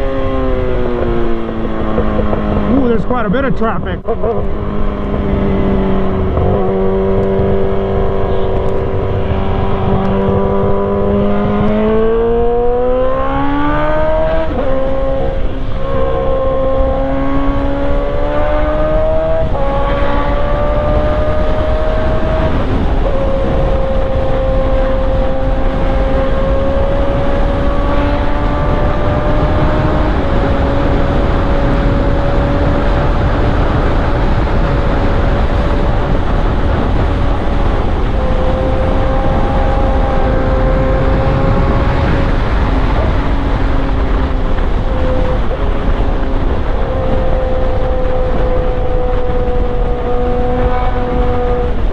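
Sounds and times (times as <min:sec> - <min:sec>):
motorcycle engine cruising: 0:00.0 - 0:51.9
wind noise: 0:00.0 - 0:51.9.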